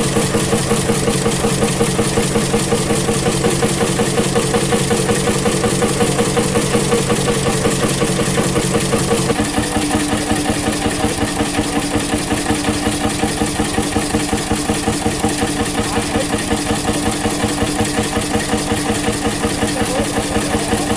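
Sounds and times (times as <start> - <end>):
engine running rhythmically: 0.0 - 20.9.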